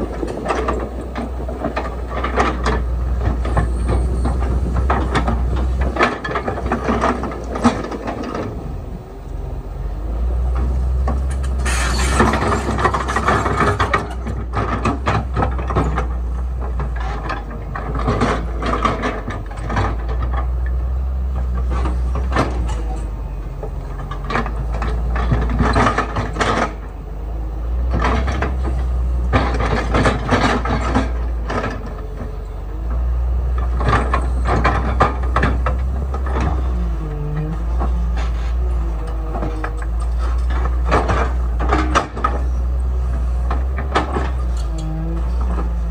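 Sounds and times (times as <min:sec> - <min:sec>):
metallic clanks and knocks: 0:00.0 - 0:08.6, 0:10.5 - 0:27.0, 0:27.8 - 0:45.9
diesel engine running: 0:00.0 - 0:45.9.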